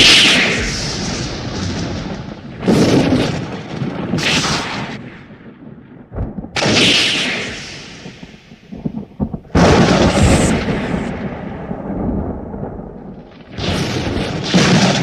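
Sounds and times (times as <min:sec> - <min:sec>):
thunderclaps rumbling: 0:00.0 - 0:15.0.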